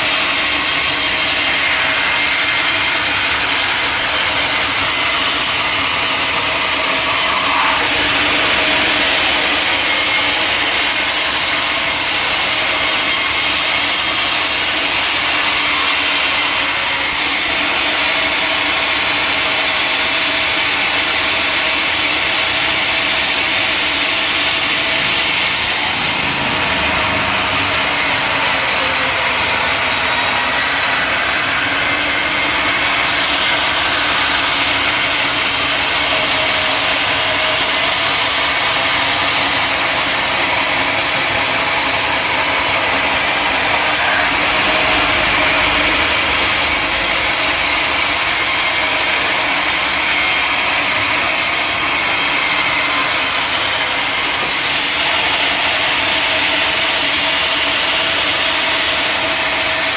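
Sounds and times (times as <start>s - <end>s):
sawmill saw machinery running: 0.0s - 59.9s.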